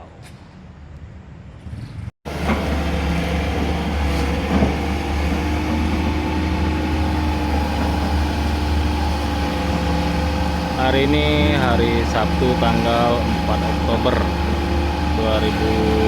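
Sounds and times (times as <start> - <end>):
excavator diesel engine humming: 2.3 - 16.0.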